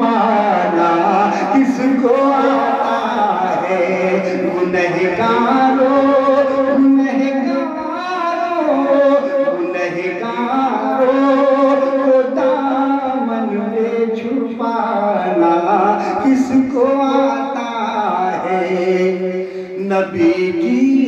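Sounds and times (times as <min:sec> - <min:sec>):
man singing long wavering notes: 0:00.0 - 0:21.0.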